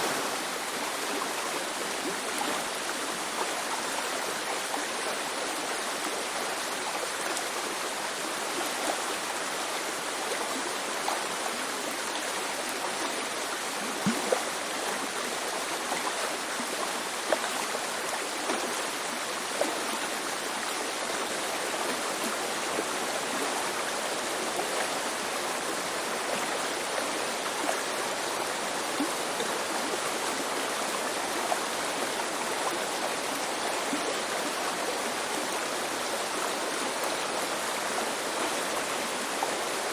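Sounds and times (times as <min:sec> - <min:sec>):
river babbling: 0:00.0 - 0:39.9.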